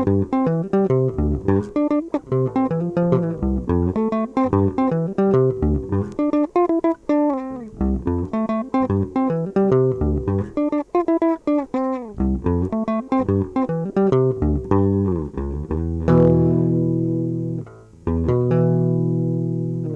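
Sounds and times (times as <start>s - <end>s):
guitar plucking quick notes: 0.0s - 19.9s.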